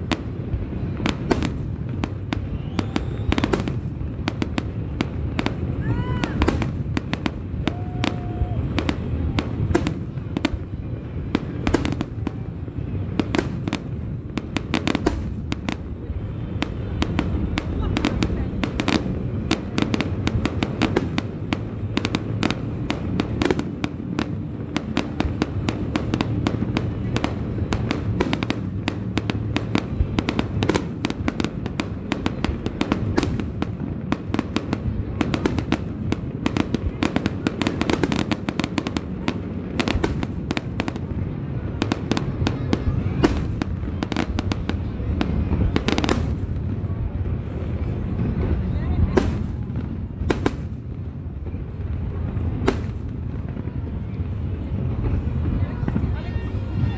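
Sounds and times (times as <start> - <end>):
fireworks bangs and crackles: 0.0 - 56.9
steady low rumble: 0.0 - 56.9.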